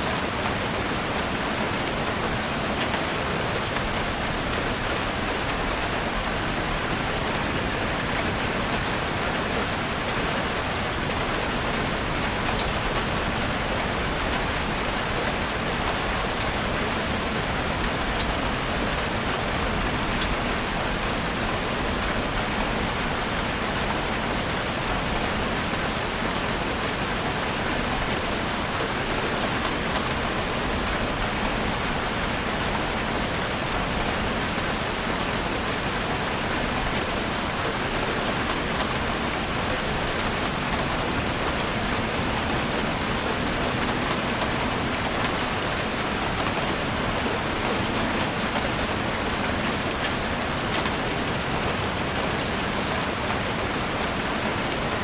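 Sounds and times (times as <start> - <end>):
heavy rain drumming on a roof: 0.0 - 55.0.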